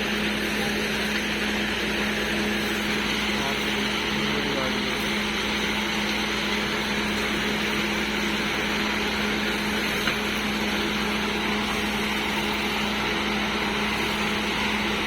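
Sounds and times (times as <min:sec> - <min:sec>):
construction machine engine humming: 0:00.0 - 0:15.0.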